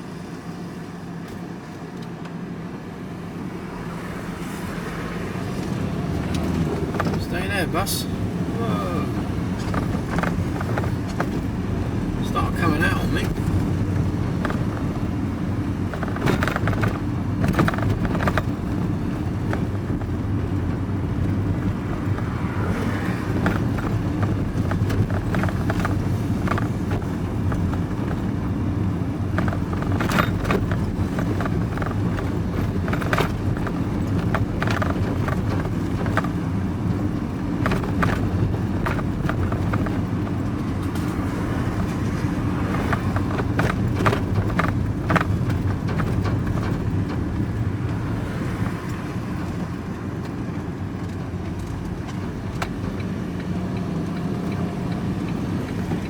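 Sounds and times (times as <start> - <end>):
vehicle engine and road drone: 0.0 - 56.0
light knocks and rattles: 9.1 - 56.0.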